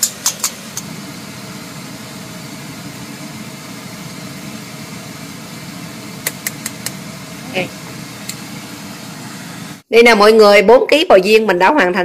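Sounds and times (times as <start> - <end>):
steady mechanical hum with hiss: 0.0 - 9.9.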